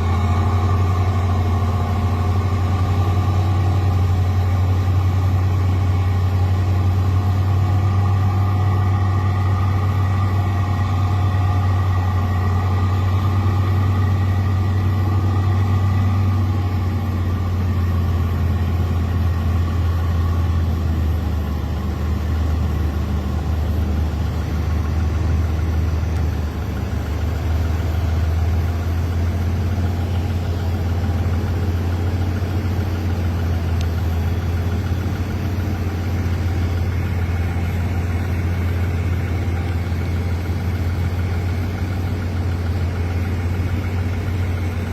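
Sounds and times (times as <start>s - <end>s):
heavy diesel engine droning: 0.0s - 44.9s.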